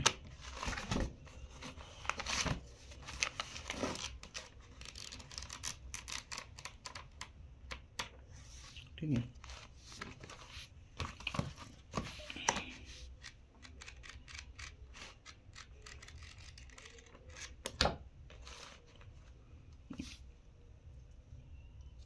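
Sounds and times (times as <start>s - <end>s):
book pages flipping: 0.0s - 7.3s, 8.4s - 19.3s.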